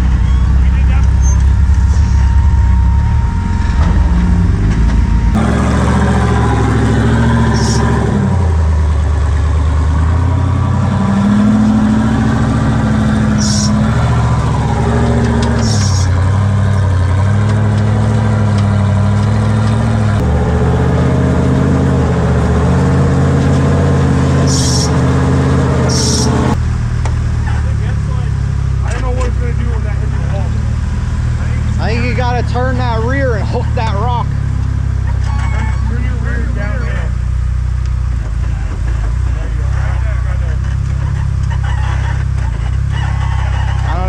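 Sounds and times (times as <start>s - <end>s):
buggy engine revving: 0.0s - 44.0s.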